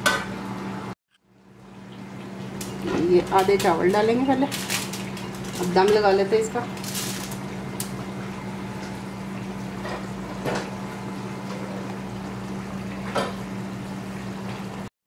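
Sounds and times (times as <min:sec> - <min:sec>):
kitchen hum with hiss: 0:00.0 - 0:14.9.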